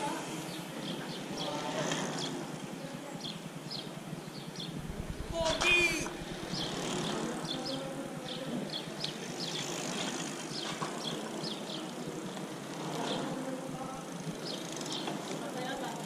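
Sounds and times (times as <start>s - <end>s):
bike tyres rolling on pavement: 0.0s - 16.0s.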